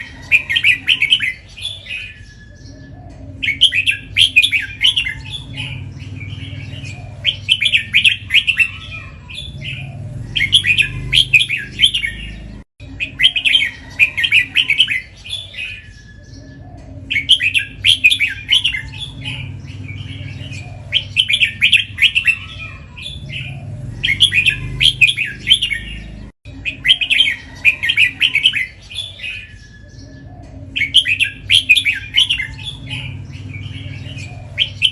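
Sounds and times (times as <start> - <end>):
bird singing warbled phrases: 0.0 - 34.9.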